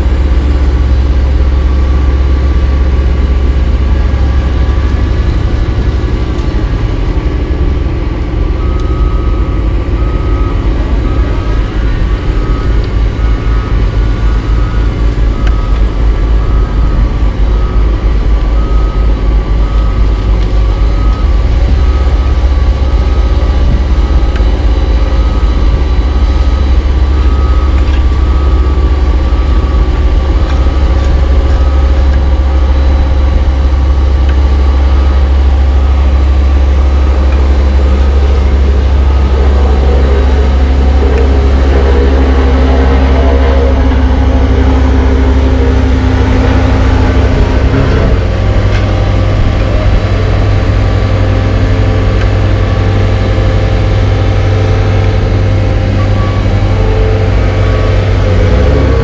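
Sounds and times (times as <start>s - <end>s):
backup alarm beeping: 0.0s - 59.0s
heavy diesel engines running: 0.0s - 59.0s.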